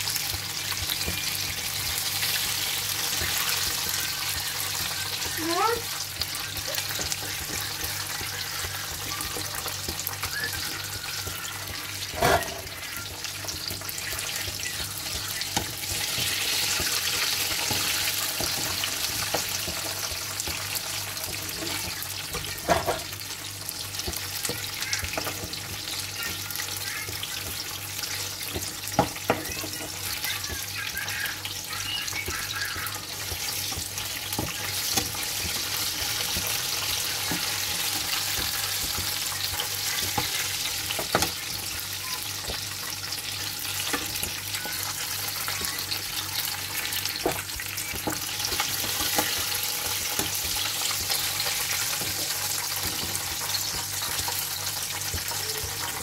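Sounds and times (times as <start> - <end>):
oil sizzling in pan: 0.0 - 56.0.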